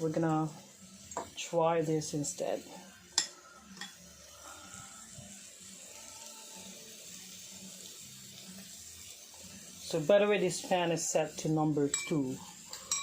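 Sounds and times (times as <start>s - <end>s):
food sizzling on grill pan: 0.0s - 13.0s.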